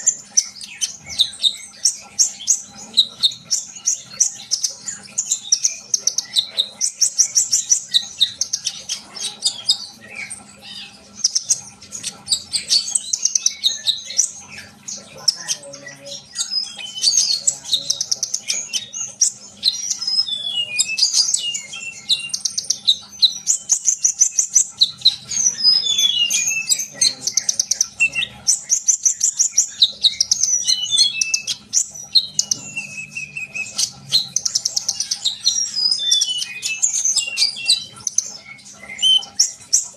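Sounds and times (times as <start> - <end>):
bird singing trills and chirps: 0.0 - 39.9.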